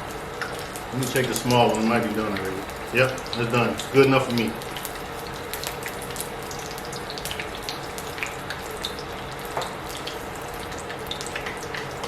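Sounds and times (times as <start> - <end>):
faint steady hum: 0.0 - 12.0
food deep-frying in oil: 0.0 - 12.0.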